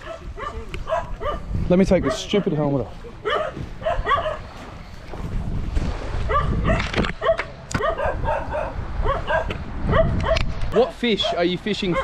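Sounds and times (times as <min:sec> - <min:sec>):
dogs barking: 0:00.0 - 0:04.6, 0:06.3 - 0:12.0.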